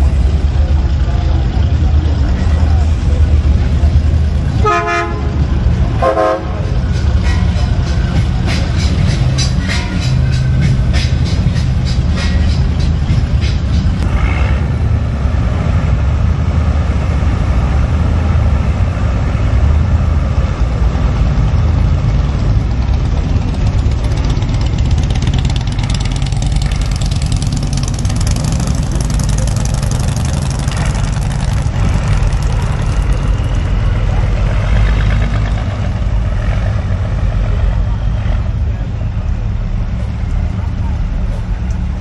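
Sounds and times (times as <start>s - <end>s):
car engine rumbling: 0.0s - 42.0s.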